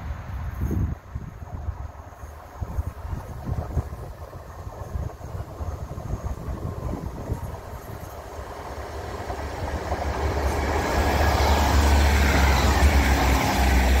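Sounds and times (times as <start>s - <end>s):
train engine rumble: 0.0s - 14.0s
wheel-on-rail noise: 0.5s - 14.0s.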